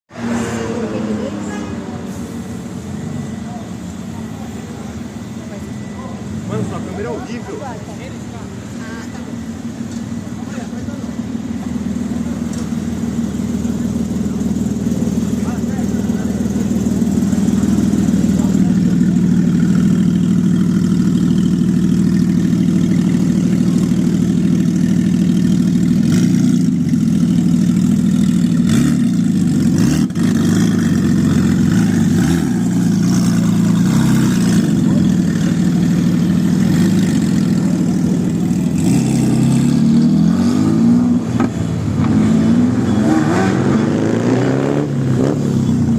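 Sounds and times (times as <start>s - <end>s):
car engine revving: 5.8s - 45.9s.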